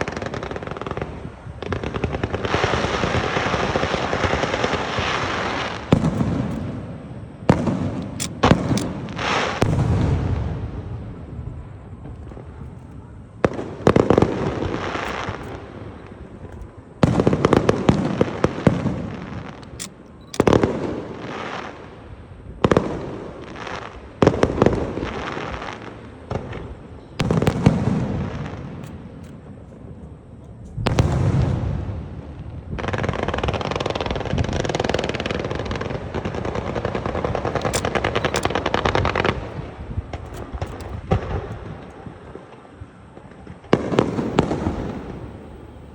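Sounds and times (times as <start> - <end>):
fireworks banging: 0.0 - 21.9, 30.8 - 45.9
fireworks crackling: 0.0 - 29.7, 30.8 - 45.9.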